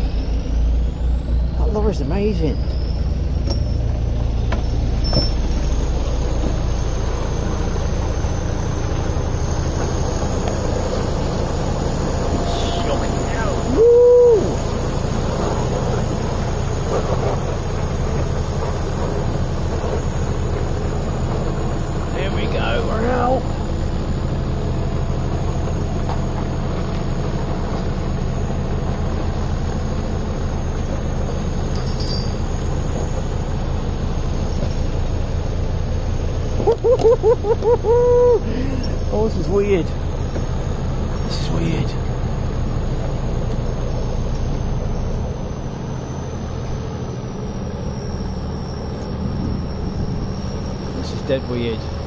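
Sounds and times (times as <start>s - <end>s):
lorry engine running: 0.0s - 52.0s.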